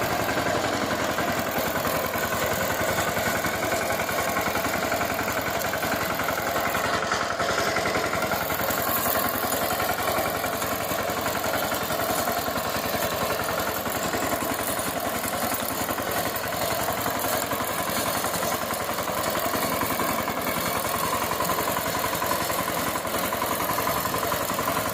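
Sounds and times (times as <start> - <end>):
diesel engine clattering: 0.0 - 24.9.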